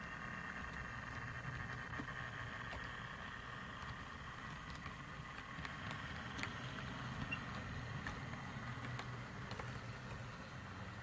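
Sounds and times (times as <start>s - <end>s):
model train motor hum: 0.0s - 11.0s
wheels clicking on rails: 0.0s - 11.0s.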